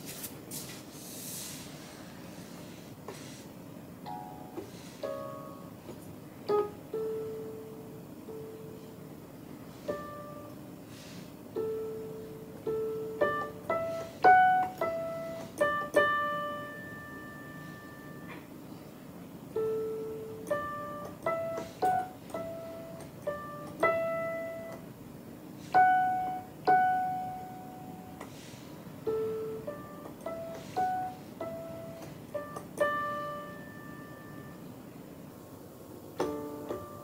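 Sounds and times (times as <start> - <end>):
digital piano melody: 3.8 - 10.8, 11.4 - 37.0.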